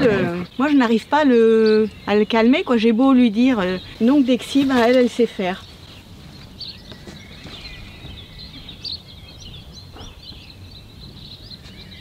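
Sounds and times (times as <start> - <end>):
small birds chirping and singing: 0.0 - 12.0.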